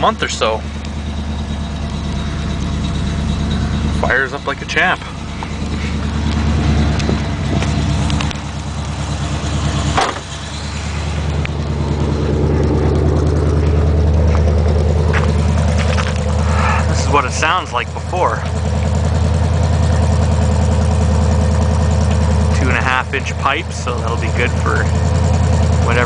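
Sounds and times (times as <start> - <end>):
car engine running: 0.0 - 26.0
engine knock: 0.0 - 26.0.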